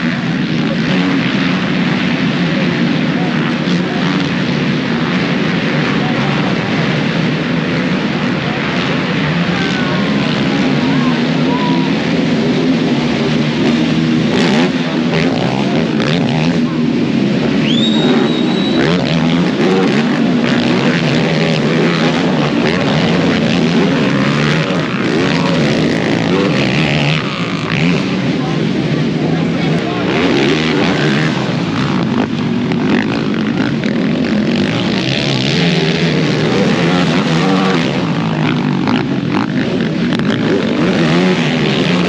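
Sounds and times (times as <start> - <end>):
quad engines revving: 0.0 - 42.0.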